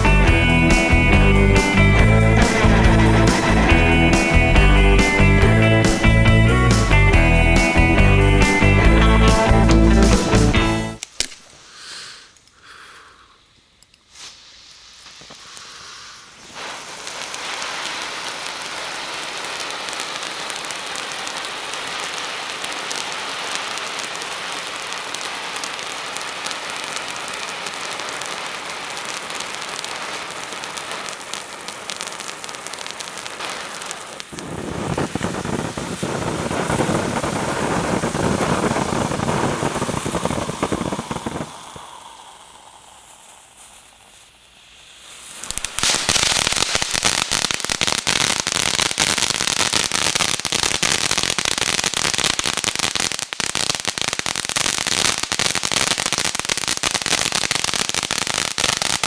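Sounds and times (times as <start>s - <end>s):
fountain fireworks hissing and crackling: 0.0s - 59.0s.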